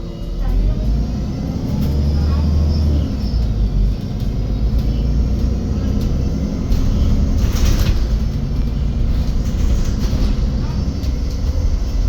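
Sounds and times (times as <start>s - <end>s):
bus engine low rumble: 0.0s - 12.0s.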